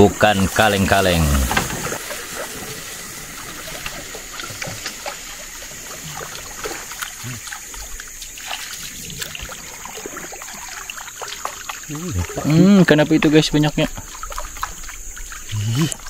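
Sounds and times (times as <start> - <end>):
steady high hiss: 0.0 - 16.0
water lapping against boat: 0.0 - 16.0.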